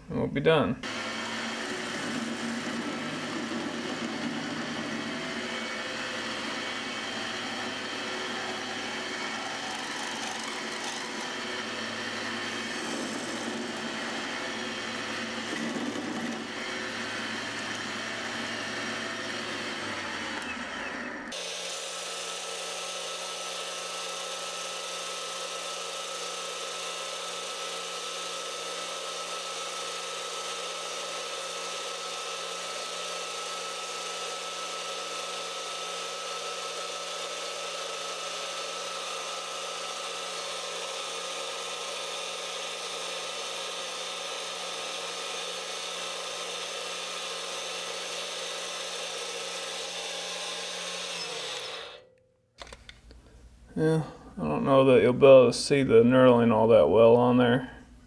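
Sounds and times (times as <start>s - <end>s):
metal lathe whining: 0.8s - 52.1s.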